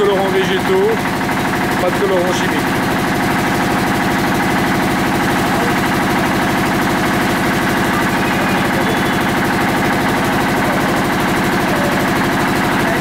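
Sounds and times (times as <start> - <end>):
machine running with pulsing clatter: 0.0 - 13.0.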